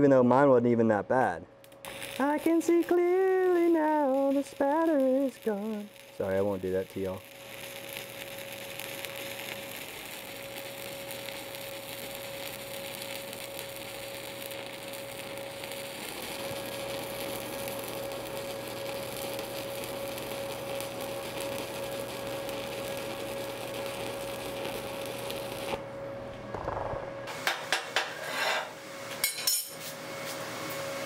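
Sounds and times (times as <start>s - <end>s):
steady whine: 1.2s - 28.1s
welding arc crackling: 1.6s - 25.8s, 26.5s - 28.1s.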